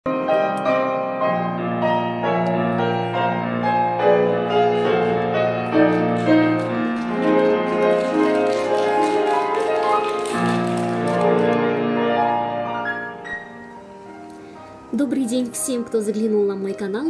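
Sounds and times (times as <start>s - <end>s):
piano background music: 0.1s - 17.0s.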